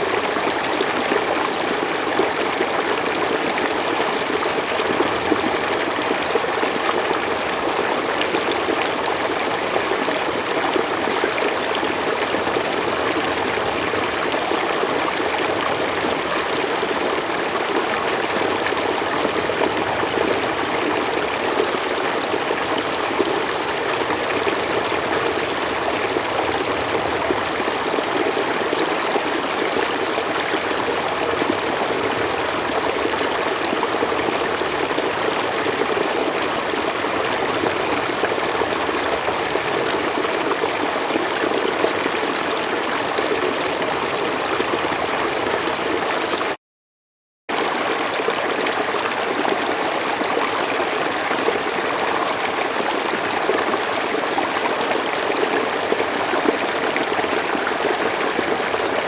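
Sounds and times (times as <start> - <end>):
stream flowing over rocks: 0.0 - 46.6, 47.5 - 59.0.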